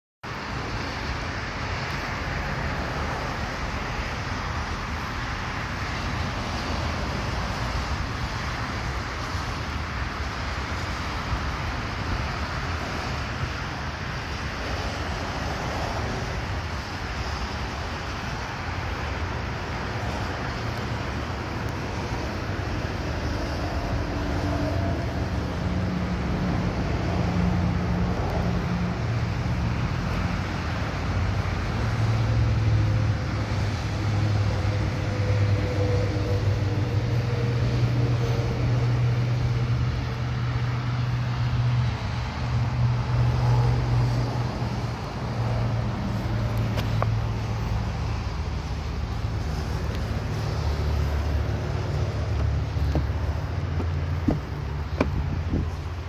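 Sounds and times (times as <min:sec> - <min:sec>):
road traffic: 0:00.2 - 0:56.0
wind: 0:00.2 - 0:56.0
low engine hum: 0:00.3 - 0:56.0.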